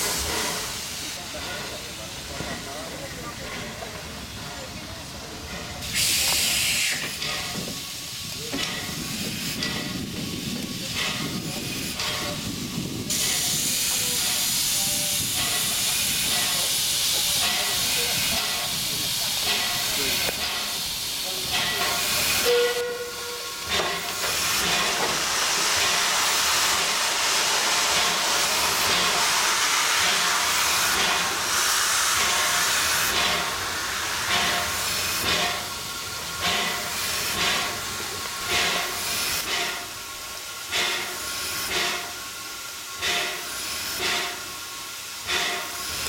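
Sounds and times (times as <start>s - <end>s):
steam locomotive puffing: 0.0s - 4.4s, 5.1s - 46.0s
steam hissing: 0.0s - 46.0s.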